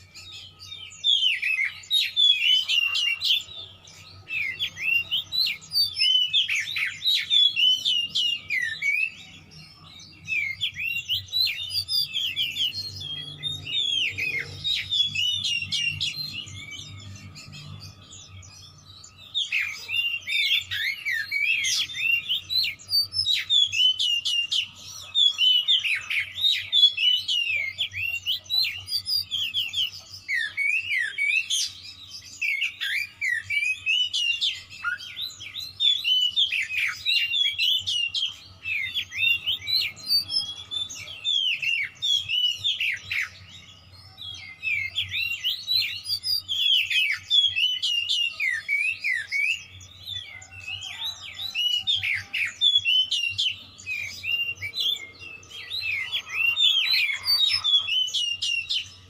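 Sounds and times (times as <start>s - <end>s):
bird singing whistles and chirps: 0.0s - 59.0s.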